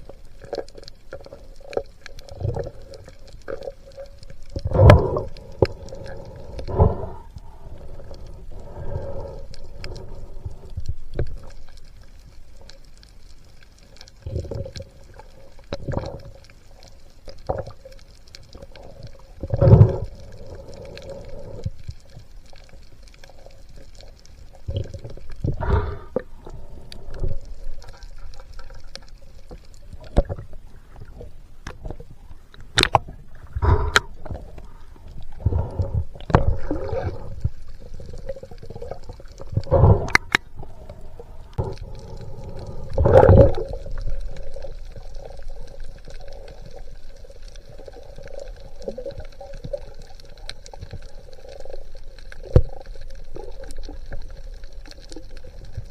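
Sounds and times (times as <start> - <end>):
underwater water surges and gurgles: 0.0 - 55.9.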